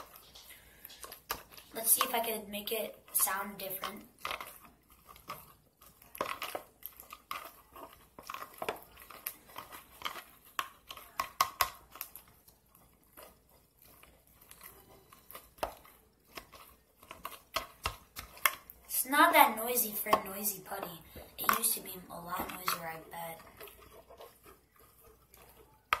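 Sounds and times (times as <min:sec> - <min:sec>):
putty squelching: 0:00.0 - 0:26.0.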